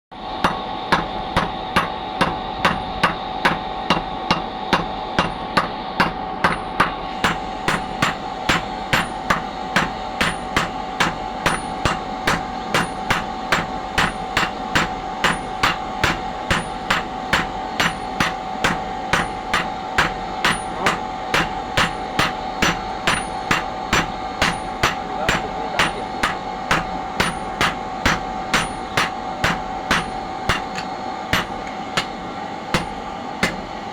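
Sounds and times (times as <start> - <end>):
hammer striking metal: 0.4 - 33.9.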